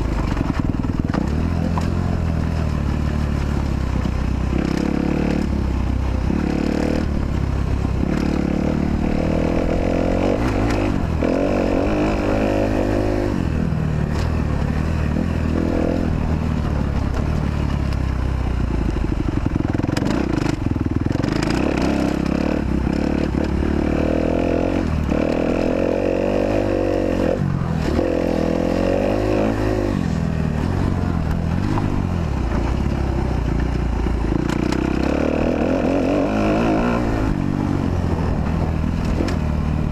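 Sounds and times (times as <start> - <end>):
motocross engine revving: 4.4 - 16.9, 19.4 - 39.9.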